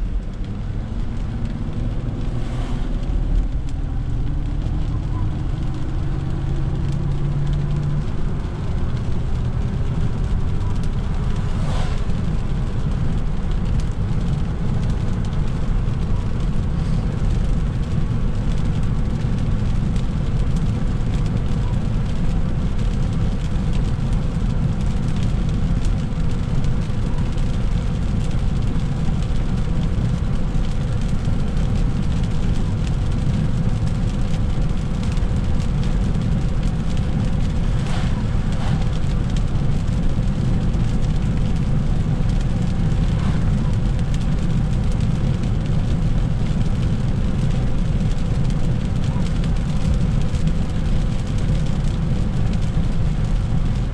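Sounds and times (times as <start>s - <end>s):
low engine and road drone: 0.0s - 53.9s
tyres hissing on wet road: 0.0s - 53.9s.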